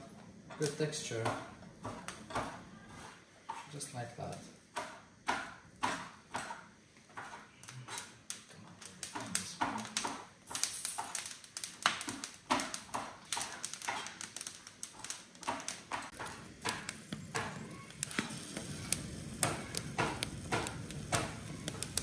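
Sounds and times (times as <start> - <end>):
vegetables tapping on metal grates: 0.5 - 22.0.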